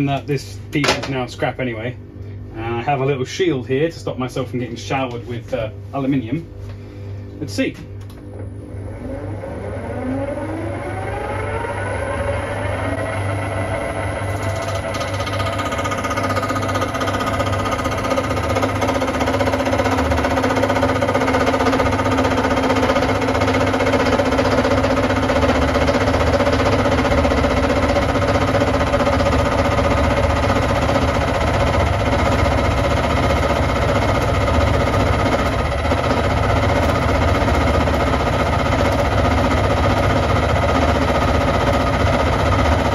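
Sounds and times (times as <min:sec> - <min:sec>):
milling machine gear whine: 0:08.3 - 0:42.9.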